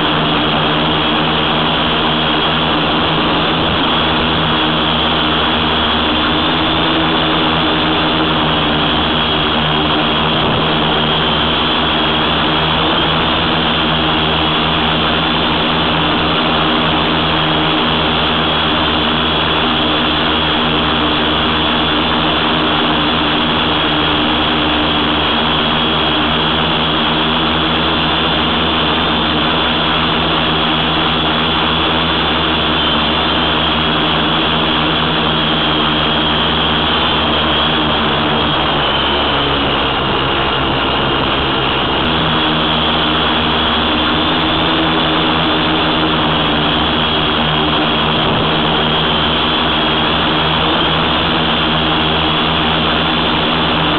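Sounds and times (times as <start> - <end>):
drone motors humming: 0.0 - 53.9
rush of air: 0.0 - 53.9.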